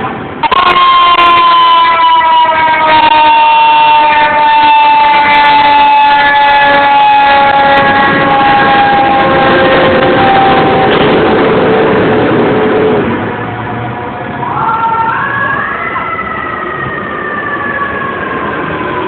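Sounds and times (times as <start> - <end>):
truck and street noise: 0.0 - 19.0
fire engine siren wailing: 0.1 - 19.0.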